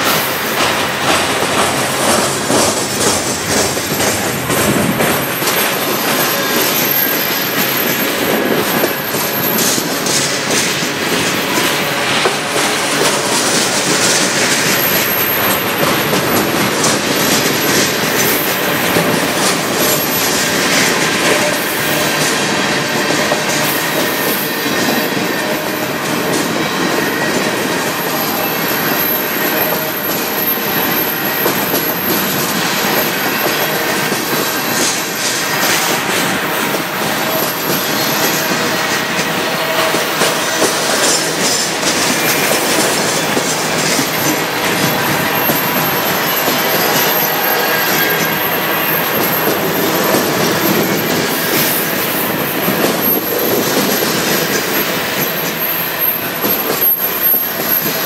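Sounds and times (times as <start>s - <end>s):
high wheel squeal: 0.0s - 58.0s
train wheels clattering over rails: 0.0s - 58.0s.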